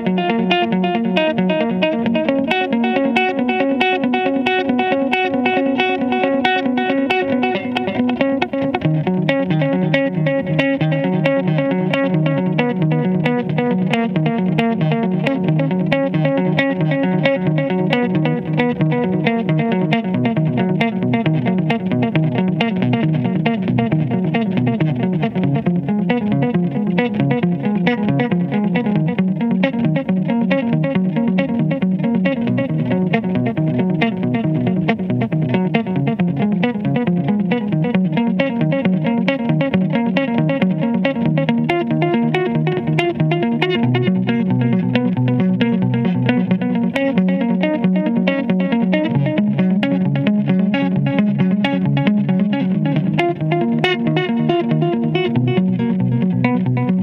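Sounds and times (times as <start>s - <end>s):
electric guitar picked notes: 0.0s - 57.0s.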